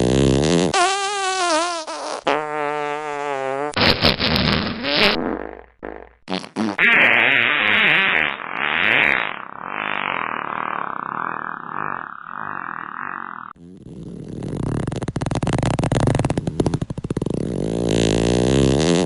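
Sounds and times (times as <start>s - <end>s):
fart sound effects: 0.0s - 19.0s.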